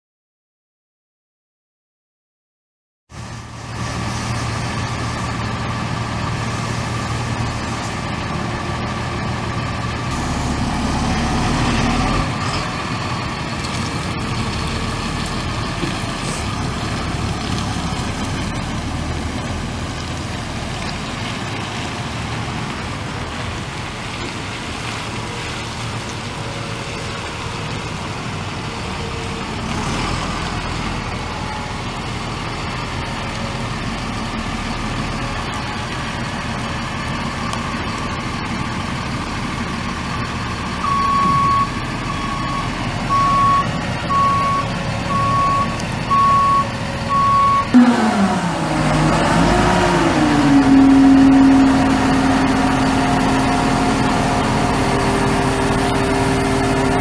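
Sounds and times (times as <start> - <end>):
diesel truck engine idling: 3.2 - 57.0.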